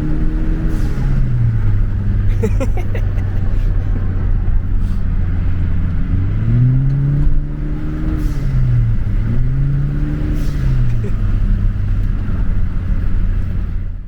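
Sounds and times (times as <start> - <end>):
car engine accelerating hard: 0.0 - 14.0
road noise: 0.0 - 14.0.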